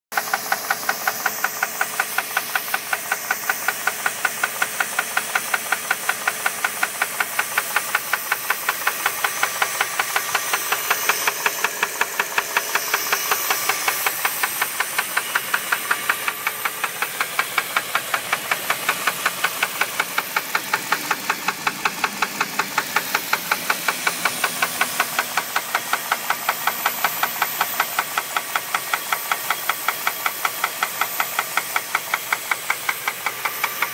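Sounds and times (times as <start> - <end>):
engine running with rhythmic knock: 0.1 - 33.9.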